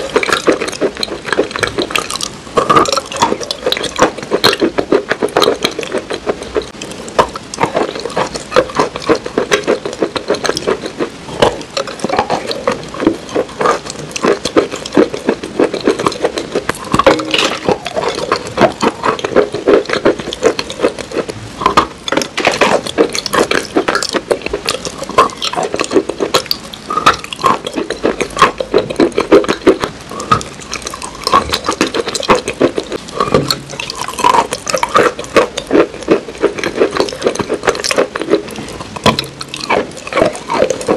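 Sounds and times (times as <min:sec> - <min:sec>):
sticky mouth clicks: 0:00.0 - 0:40.9
wet chewing and lip-smacking: 0:00.0 - 0:40.9.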